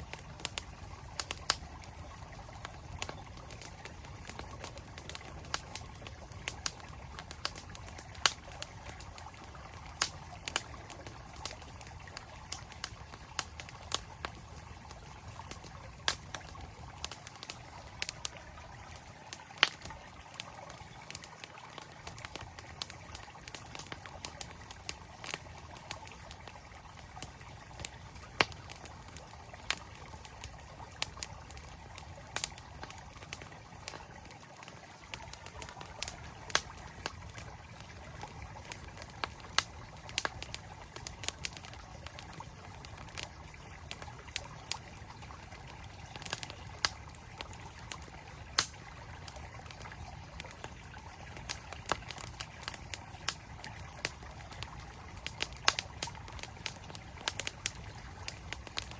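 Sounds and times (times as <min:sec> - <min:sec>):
campfire crackling and popping: 0:00.0 - 0:58.9
stream flowing: 0:00.0 - 0:58.9.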